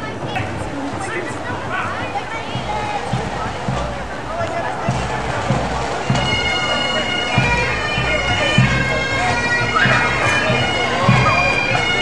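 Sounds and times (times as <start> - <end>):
bass and snare drum beats: 0.1 - 12.0
bagpipes playing: 2.0 - 12.0.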